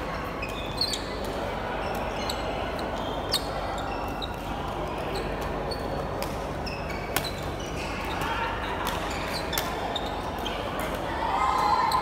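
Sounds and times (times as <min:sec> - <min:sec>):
murmur of voices: 0:00.0 - 0:12.0
shoes squeaking on court: 0:00.2 - 0:10.8.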